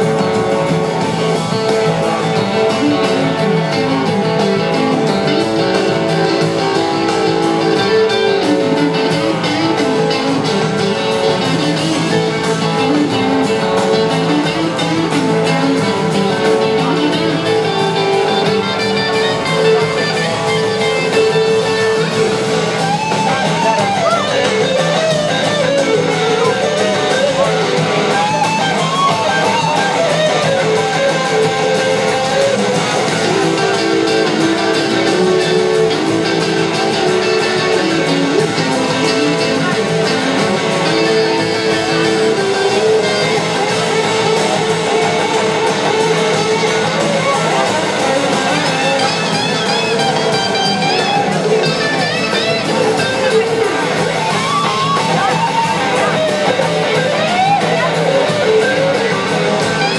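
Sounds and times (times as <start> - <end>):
blues-rock band playing live: 0.0 - 59.9
lead electric guitar: 0.0 - 59.9.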